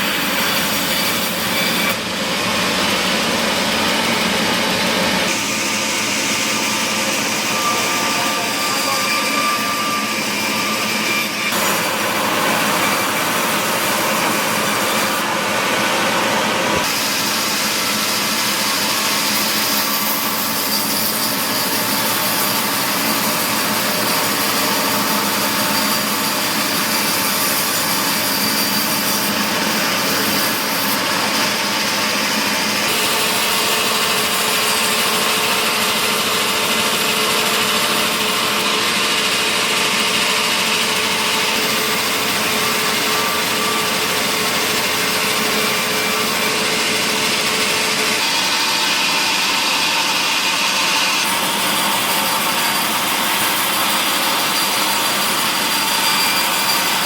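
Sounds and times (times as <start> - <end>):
sawmill saw and motor running: 0.0 - 57.0.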